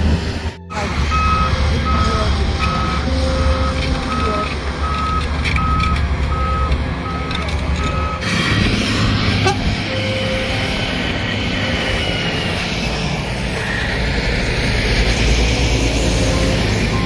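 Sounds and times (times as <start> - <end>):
diesel engines rumbling: 0.0 - 17.0
reversing alarm beeping: 0.6 - 14.3, 16.0 - 17.0.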